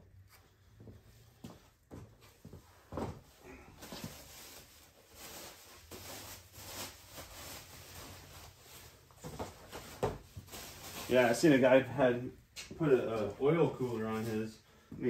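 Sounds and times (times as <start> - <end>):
faint rustling and handling: 0.0 - 15.0.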